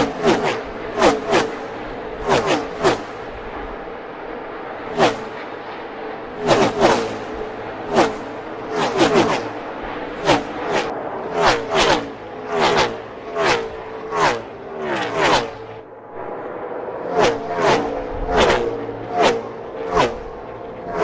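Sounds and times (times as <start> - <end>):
race cars passing at speed: 0.0 - 21.0.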